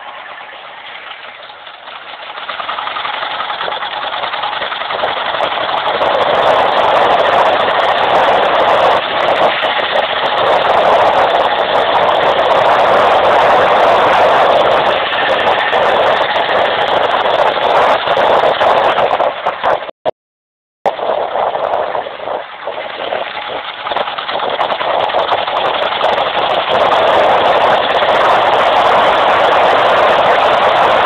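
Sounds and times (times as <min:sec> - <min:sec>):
motorcycle running: 0:00.0 - 0:20.0, 0:20.9 - 0:31.0.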